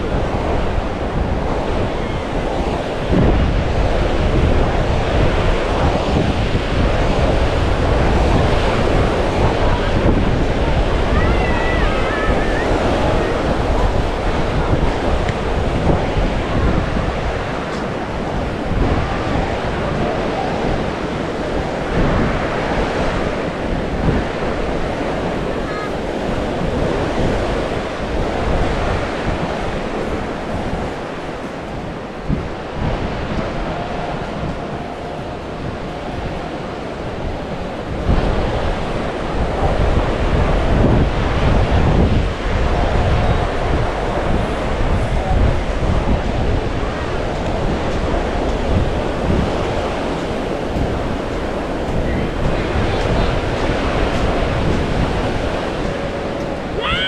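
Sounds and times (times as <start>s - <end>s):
sea surf washing on sand: 0.0s - 57.0s
wind buffeting microphone: 0.0s - 57.0s.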